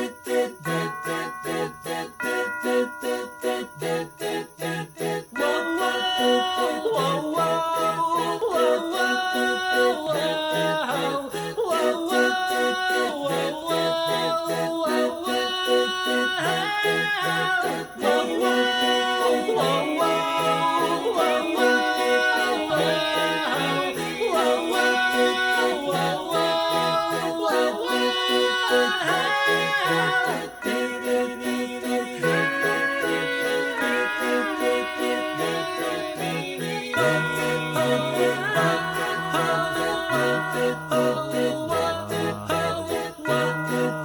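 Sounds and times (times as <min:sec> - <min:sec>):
festive music with pulsing bass: 0:00.0 - 0:44.0
jingle bells shaken: 0:00.0 - 0:44.0.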